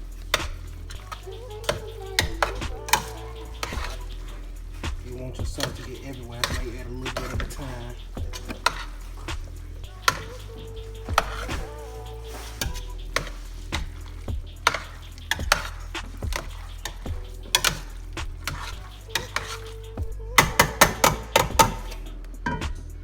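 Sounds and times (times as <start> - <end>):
utensil scraping a pan: 0.0 - 22.6.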